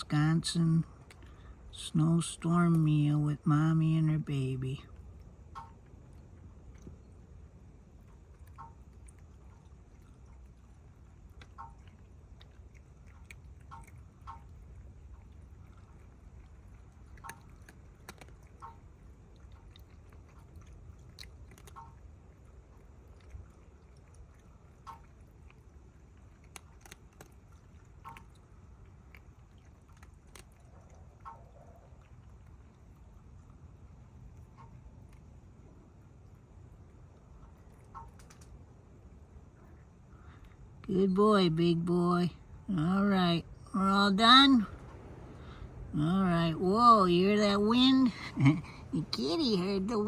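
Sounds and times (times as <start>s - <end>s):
cats chewing food: 0.0s - 40.9s
low background rumble: 0.0s - 50.0s.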